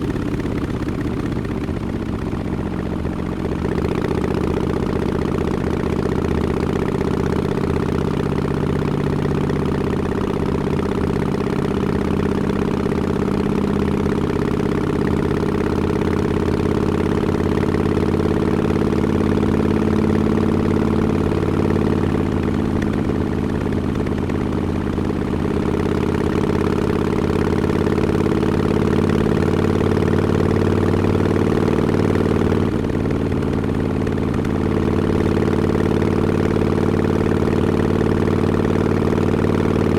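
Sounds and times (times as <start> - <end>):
motorcycle engine running at low revs: 0.0 - 39.9.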